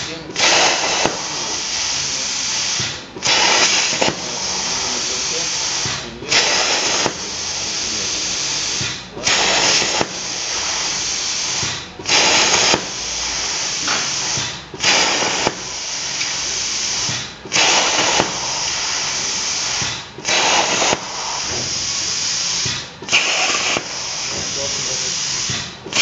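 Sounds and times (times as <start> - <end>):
plasma arc bursts: 0.0 - 26.0
plasma torch air hissing: 0.0 - 26.0.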